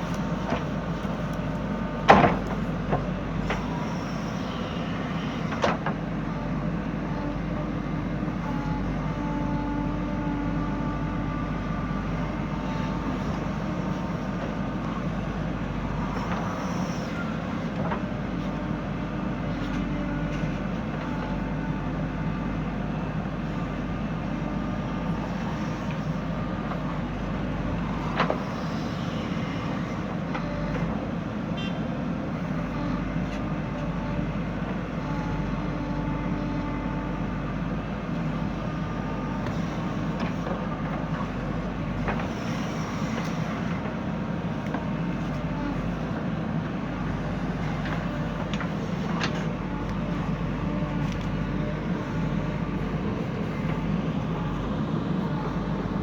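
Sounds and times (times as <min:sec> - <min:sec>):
diesel engine running: 0:00.0 - 0:56.0
faint hydraulic whine: 0:00.0 - 0:56.0.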